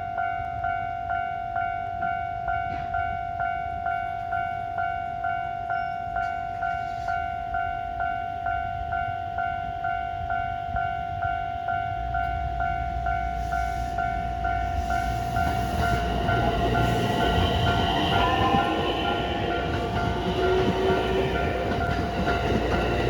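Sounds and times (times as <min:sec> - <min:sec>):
low train rumble: 0:00.0 - 0:23.0.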